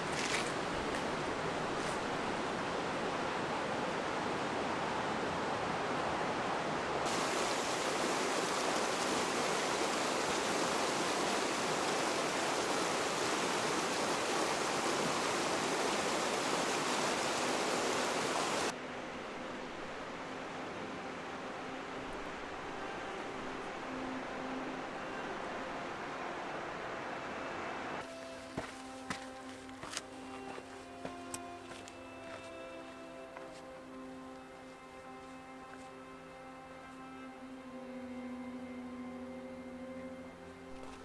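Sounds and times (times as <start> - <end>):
rushing water noise: 0.0 - 41.0.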